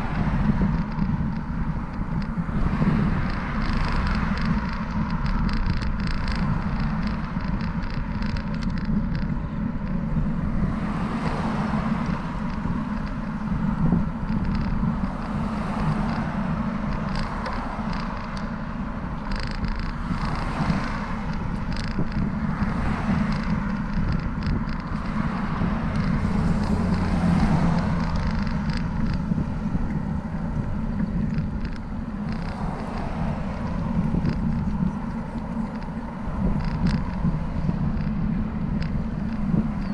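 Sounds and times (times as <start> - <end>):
road traffic passing: 0.0 - 39.9
wind rumbling on microphone: 0.0 - 39.9.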